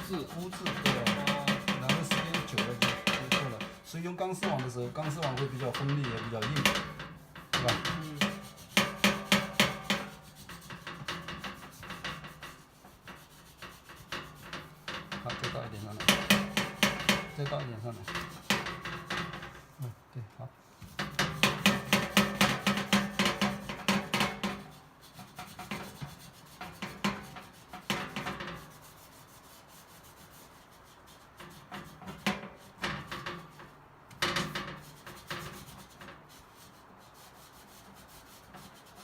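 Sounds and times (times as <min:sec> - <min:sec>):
pad scrubbing steel surface: 0:00.0 - 0:20.0, 0:20.7 - 0:39.0.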